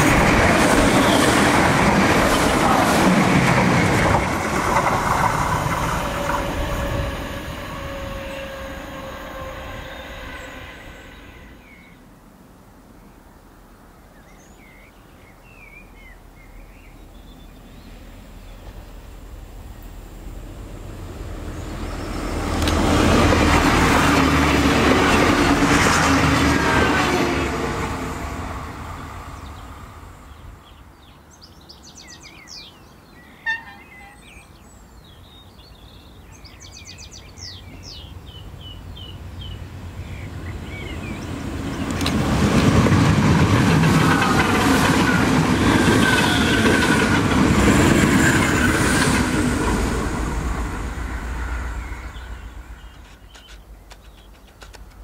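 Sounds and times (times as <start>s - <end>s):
diesel train passing at speed: 0.0s - 14.0s, 15.3s - 55.0s.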